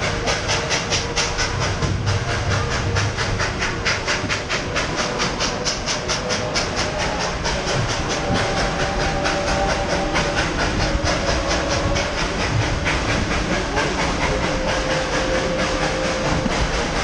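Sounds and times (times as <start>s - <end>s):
rumble of rolling train cars: 0.0s - 17.0s
steam hiss: 0.0s - 17.0s
steam locomotive chuffing: 0.0s - 17.0s.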